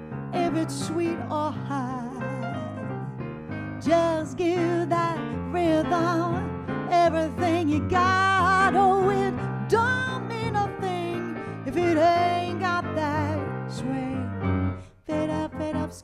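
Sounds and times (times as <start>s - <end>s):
piano accompaniment: 0.0s - 16.0s
woman singing with vibrato: 0.4s - 2.5s, 3.8s - 14.4s, 15.1s - 16.0s.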